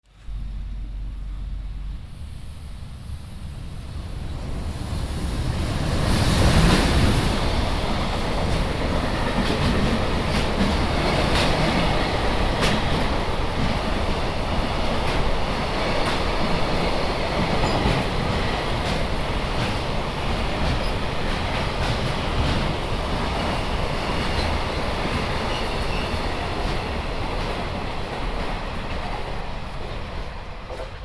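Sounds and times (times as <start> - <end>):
freight trains passing: 0.1 - 31.0.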